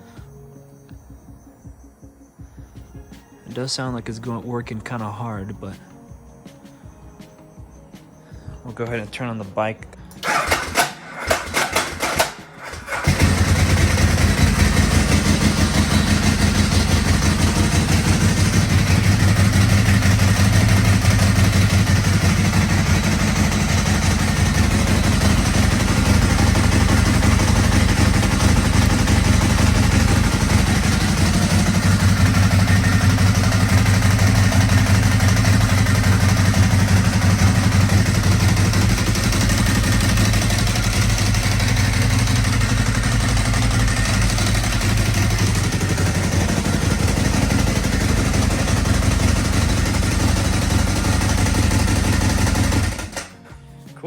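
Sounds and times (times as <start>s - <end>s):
motorcycle engine idling: 10.0s - 53.5s
electric starter cranking: 10.1s - 53.4s.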